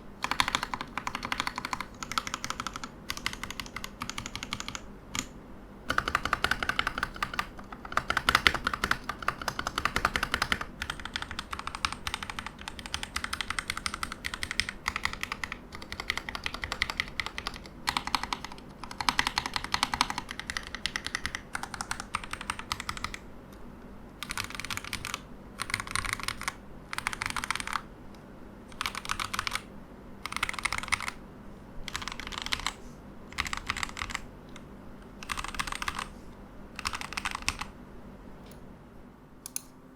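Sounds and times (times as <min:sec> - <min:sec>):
typing on mechanical keyboard: 0:00.2 - 0:05.3, 0:05.9 - 0:23.2, 0:24.2 - 0:27.9, 0:28.7 - 0:31.2, 0:31.9 - 0:34.3, 0:35.2 - 0:36.1, 0:36.8 - 0:37.7.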